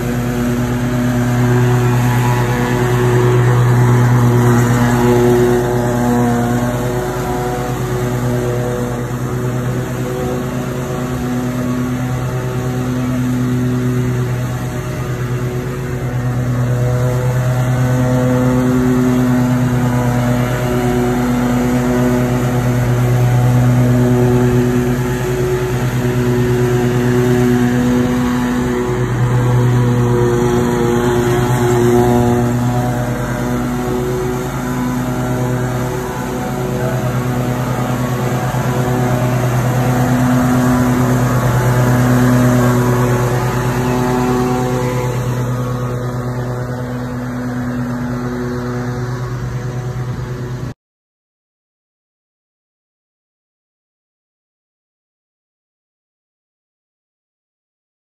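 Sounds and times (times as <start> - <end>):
riding mower engine running: 0.0 - 50.8.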